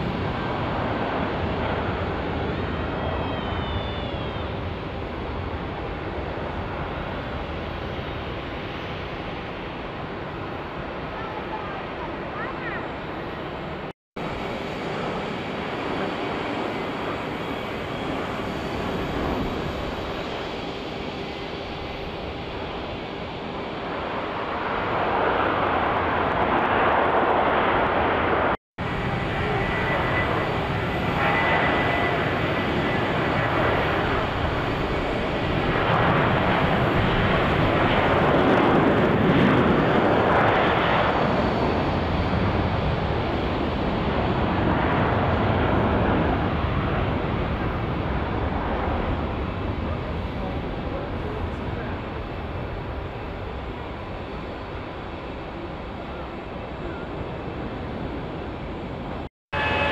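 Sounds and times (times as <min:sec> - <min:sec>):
jet engine high whine: 0:00.0 - 0:59.9
jet engines roaring: 0:00.0 - 0:59.9.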